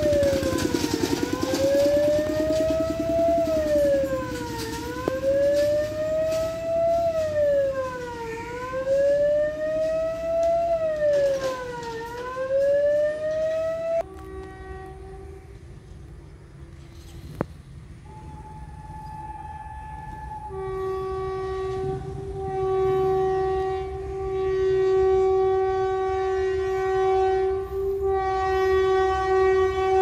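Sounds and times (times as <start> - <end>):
level crossing warning siren wailing: 0.0 - 15.4, 18.0 - 30.0.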